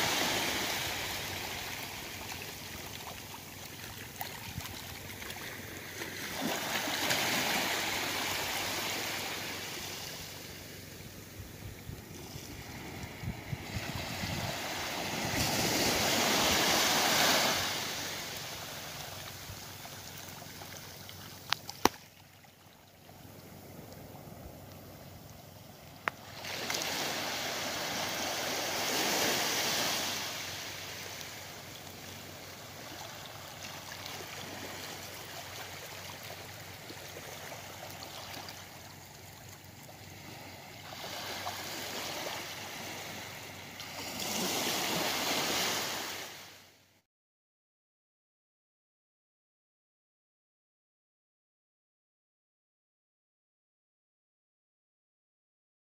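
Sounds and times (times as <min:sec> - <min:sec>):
small waves washing up beach: 0:00.0 - 0:46.8.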